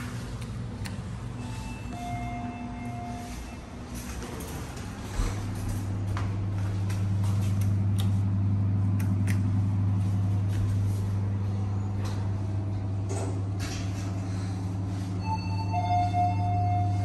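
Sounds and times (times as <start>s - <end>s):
lift humming: 0.0s - 17.0s.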